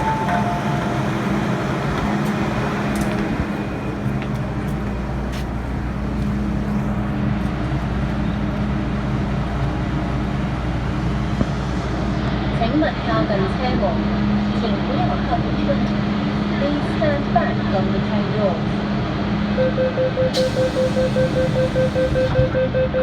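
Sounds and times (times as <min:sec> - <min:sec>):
train ventilation drone: 0:00.0 - 0:19.4, 0:20.4 - 0:22.5.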